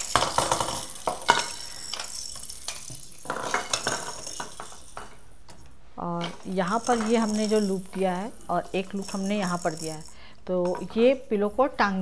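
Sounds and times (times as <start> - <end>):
plastic toys clattering: 0.0 - 12.0.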